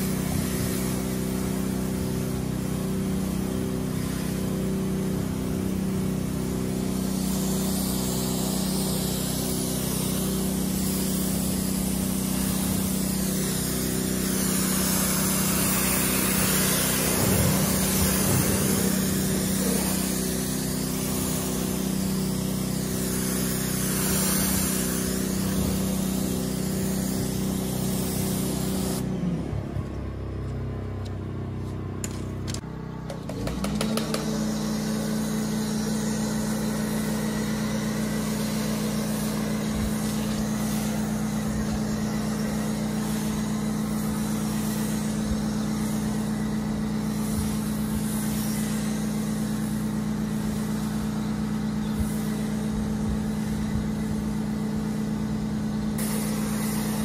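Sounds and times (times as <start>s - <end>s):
pressure washer spraying water: 0.0s - 29.1s, 33.0s - 57.0s
steady low hum: 0.0s - 57.0s.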